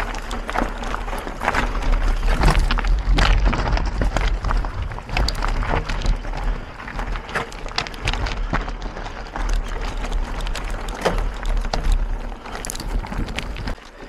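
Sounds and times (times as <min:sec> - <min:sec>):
wind rumble on microphone: 0:00.0 - 0:13.8
bike clicks and rattles: 0:00.0 - 0:14.0.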